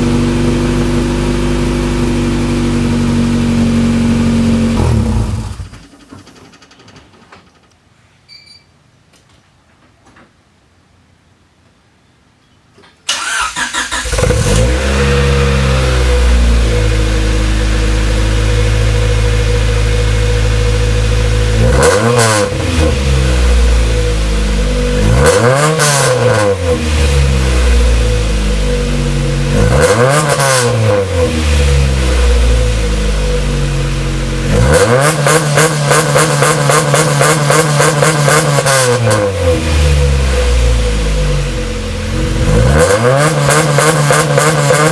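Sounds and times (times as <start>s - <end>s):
car engine idling and revving: 0.0s - 5.9s, 13.2s - 44.9s.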